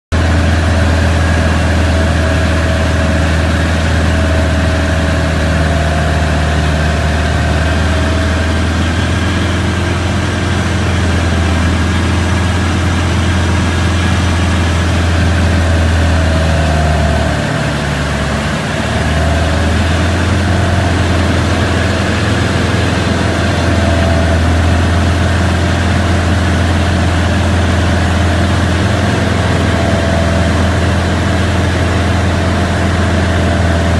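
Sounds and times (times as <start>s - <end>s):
light aircraft engine droning: 0.1s - 33.9s.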